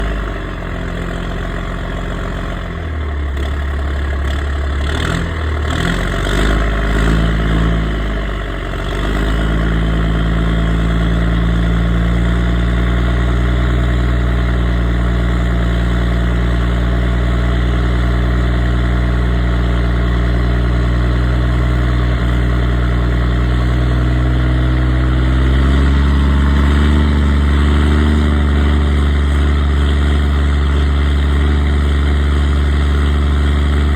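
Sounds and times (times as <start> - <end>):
truck diesel engine revving and idling: 0.0 - 33.9.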